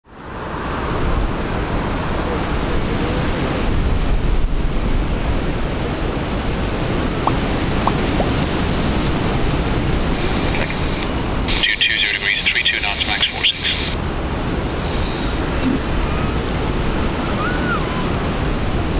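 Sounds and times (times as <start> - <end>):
storm wind buffeting microphone: 0.2 - 12.0, 13.7 - 18.9.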